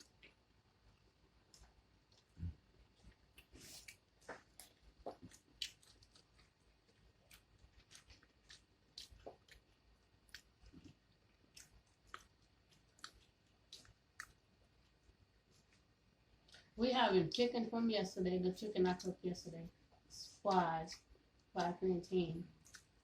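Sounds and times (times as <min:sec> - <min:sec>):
chewing food: 0:00.0 - 0:16.8, 0:19.0 - 0:21.8, 0:22.4 - 0:23.0.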